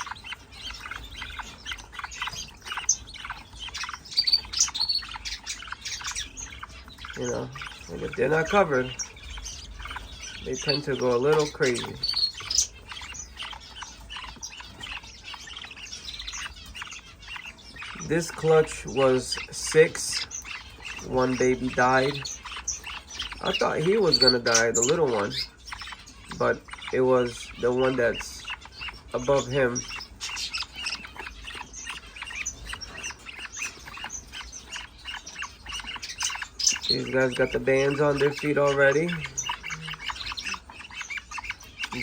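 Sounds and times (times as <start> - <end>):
budgerigars chirping: 0.0 - 42.0.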